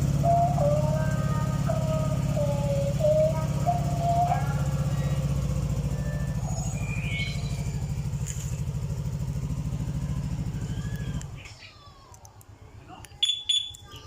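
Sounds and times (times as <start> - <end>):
high rising chirp: 0.0 - 11.8, 13.2 - 14.0
motorcycle engine idling: 0.0 - 14.0.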